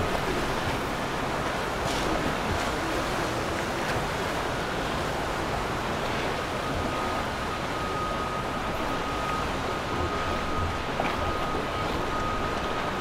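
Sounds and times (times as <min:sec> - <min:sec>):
churned water rushing: 0:00.0 - 0:13.0.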